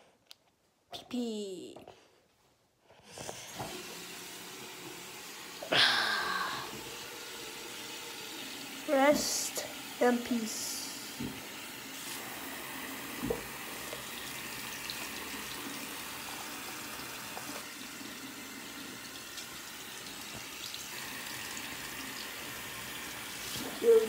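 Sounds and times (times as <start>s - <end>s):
faucet water splashing into basin: 3.6s - 24.0s.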